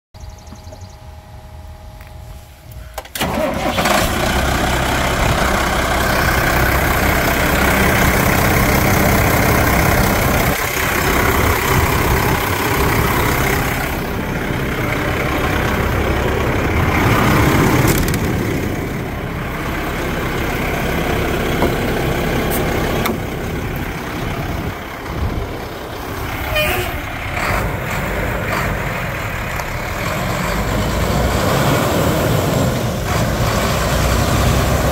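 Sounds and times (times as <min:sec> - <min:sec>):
truck engine starting and running: 0:00.2 - 0:34.9.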